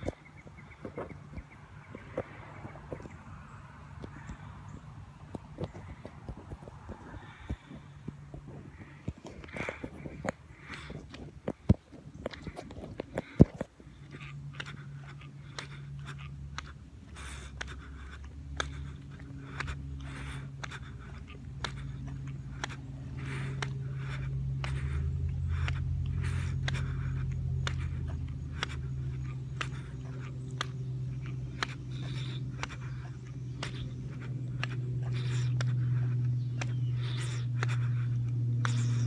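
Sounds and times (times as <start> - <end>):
low motor hum: 0.0 - 39.0.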